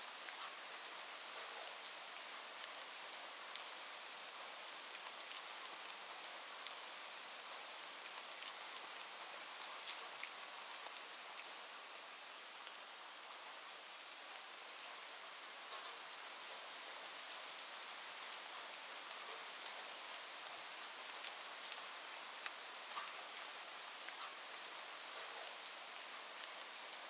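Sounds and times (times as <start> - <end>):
rain hiss: 0.0 - 27.0.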